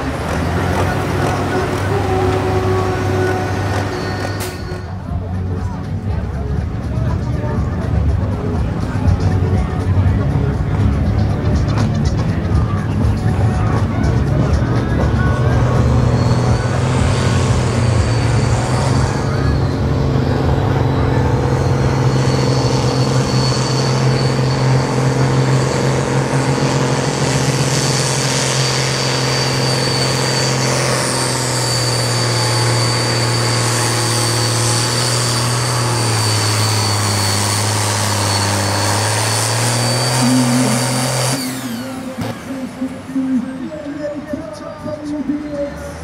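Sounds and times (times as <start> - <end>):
high whine: 0.0 - 46.0
tractor diesel engine under load: 0.0 - 46.0.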